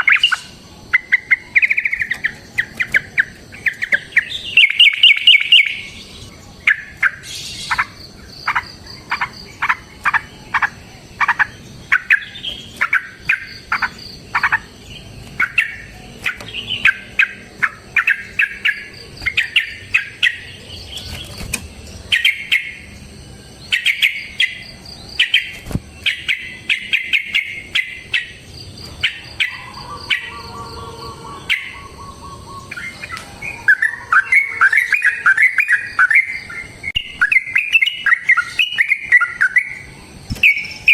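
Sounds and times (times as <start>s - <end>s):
bird singing bubbly chirps: 0.0s - 21.1s, 21.7s - 40.9s.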